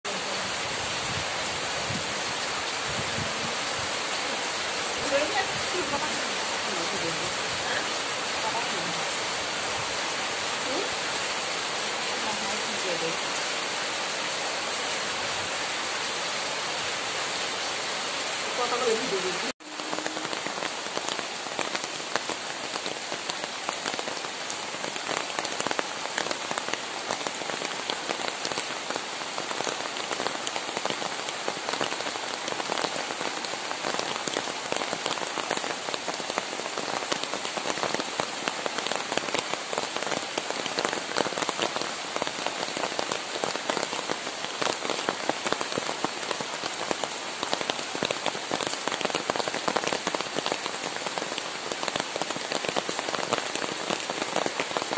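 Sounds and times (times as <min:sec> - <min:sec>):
steady rain on shrubs: 0:00.0 - 0:54.9.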